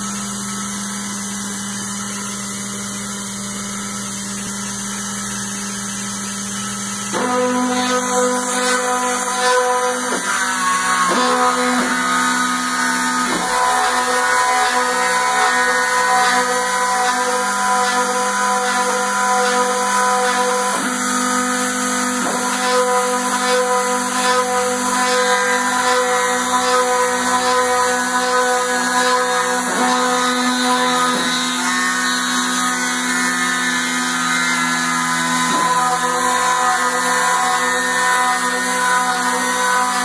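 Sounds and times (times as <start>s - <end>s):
milling machine whine: 0.0s - 40.0s.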